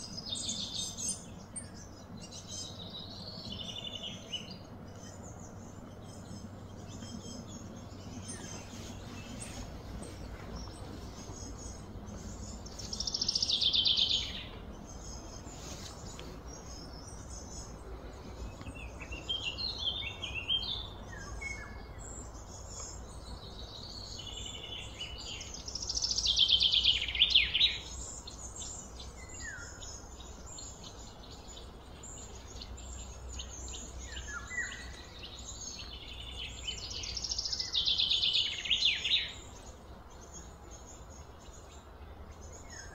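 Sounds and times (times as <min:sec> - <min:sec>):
birds chirping: 0:00.0 - 0:42.9
faint low hum: 0:00.0 - 0:42.9.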